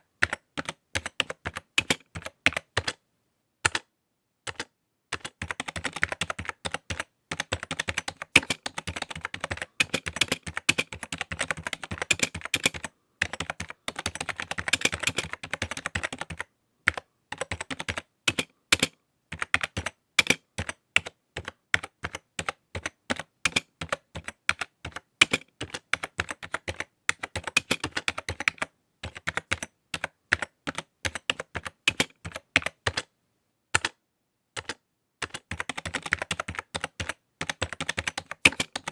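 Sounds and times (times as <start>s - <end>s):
computer keyboard typing: 0.1s - 3.0s, 3.6s - 3.9s, 4.5s - 33.1s, 33.8s - 34.0s, 34.6s - 38.9s.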